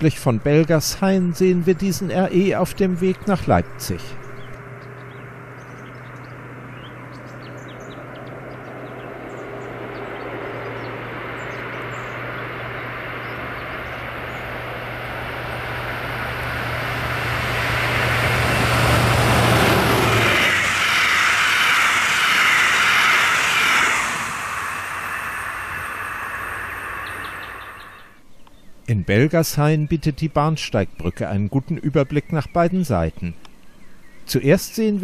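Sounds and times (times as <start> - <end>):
diesel train engine drone: 0.0 - 28.2
wheels rushing on rails: 0.0 - 28.2
birds chirping faintly: 0.0 - 35.0.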